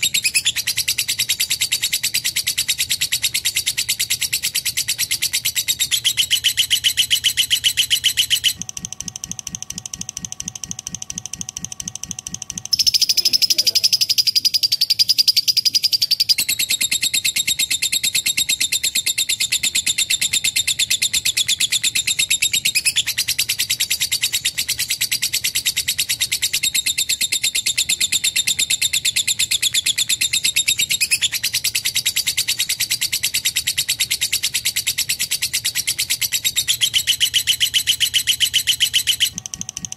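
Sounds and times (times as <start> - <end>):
lovebird chirping trill: 0.0 - 39.9.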